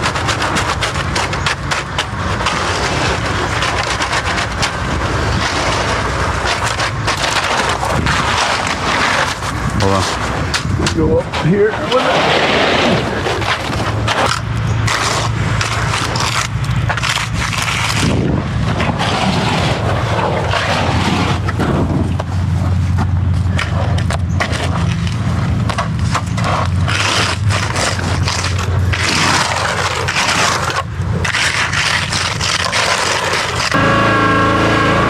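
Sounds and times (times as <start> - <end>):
steady engine hum: 0.0 - 35.0
tools scraping on gravel: 0.0 - 35.0.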